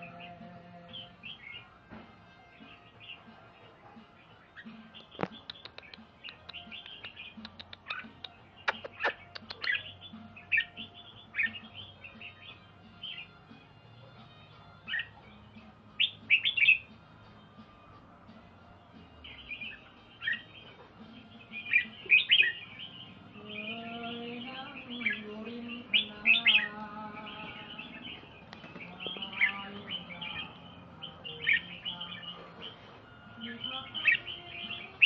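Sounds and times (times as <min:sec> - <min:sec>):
songbird chirping: 0:00.0 - 0:35.0.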